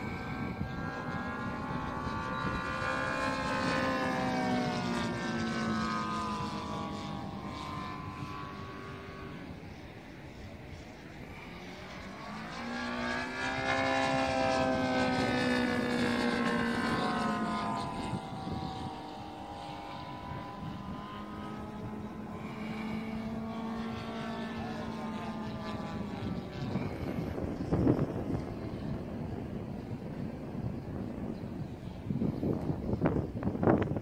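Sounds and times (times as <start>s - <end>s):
model airplane motor flying past: 0.0s - 34.0s.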